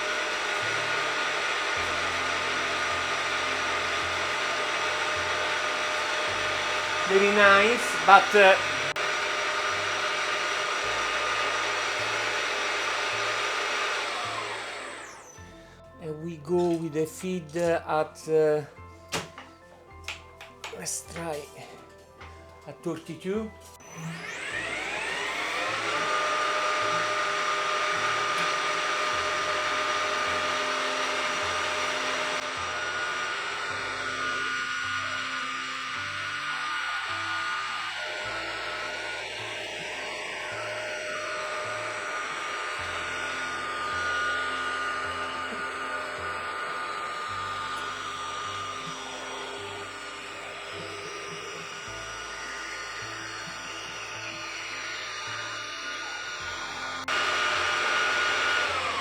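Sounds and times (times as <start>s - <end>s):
milling machine motor whining: 0.0s - 59.0s.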